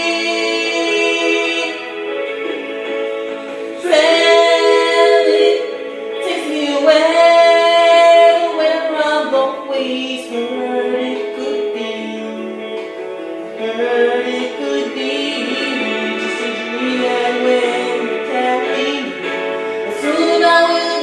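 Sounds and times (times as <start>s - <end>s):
woman singing wordless notes: 0.0s - 2.6s, 3.6s - 12.8s, 13.5s - 21.0s
voices singing in harmony: 0.0s - 21.0s.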